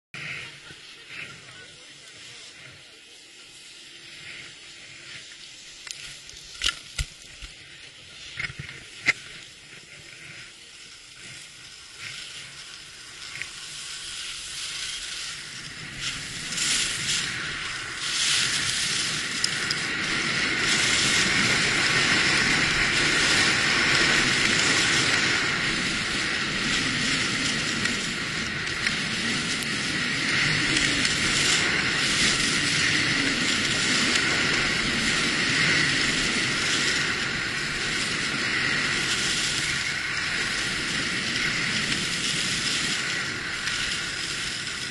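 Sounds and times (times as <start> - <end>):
skis scraping over snow: 0.2 - 44.9.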